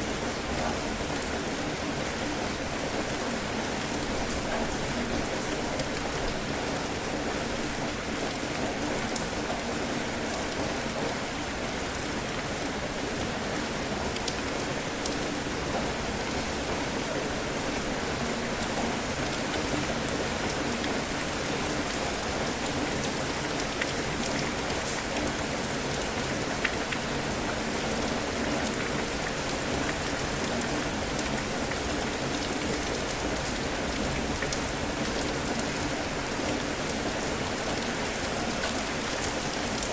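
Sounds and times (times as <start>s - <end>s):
louder raindrops: 0.0s - 39.9s
steady rain falling: 0.0s - 39.9s.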